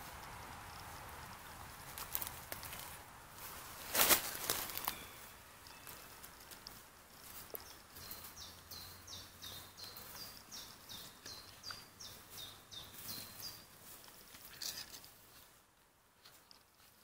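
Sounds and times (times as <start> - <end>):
handling clicks and rustles: 0.0 - 8.4, 9.8 - 17.0
songbird singing: 0.0 - 15.1.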